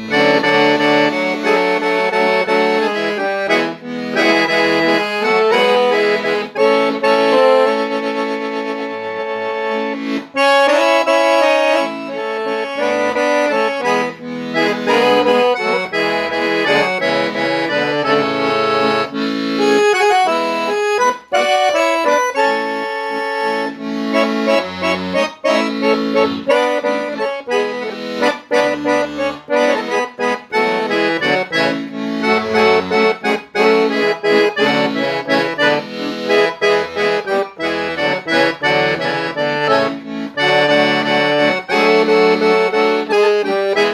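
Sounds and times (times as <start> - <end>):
accordion playing a folk tune: 0.0 - 43.9.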